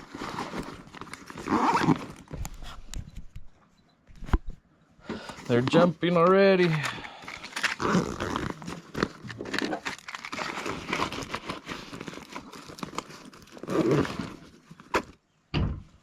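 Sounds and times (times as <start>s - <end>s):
gear crinkling and rustling: 0.0s - 3.3s, 5.3s - 15.2s.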